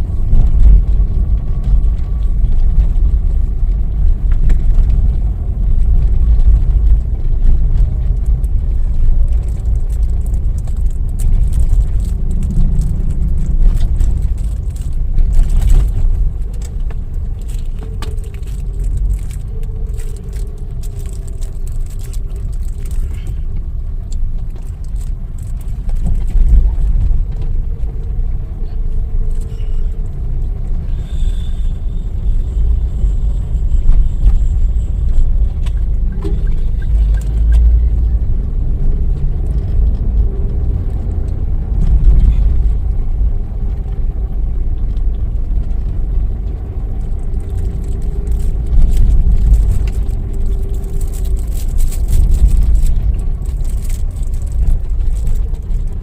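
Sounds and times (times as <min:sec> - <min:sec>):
car engine rumble: 0:00.0 - 0:56.0
road noise inside car: 0:00.0 - 0:56.0.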